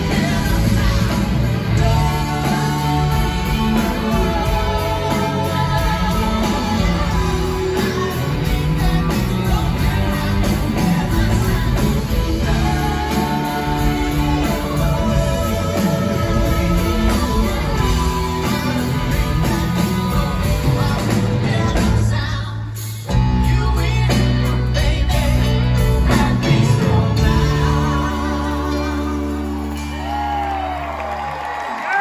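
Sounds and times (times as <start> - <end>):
lead singer vocals: 0.0 - 32.0
live rock band playing: 0.0 - 32.0.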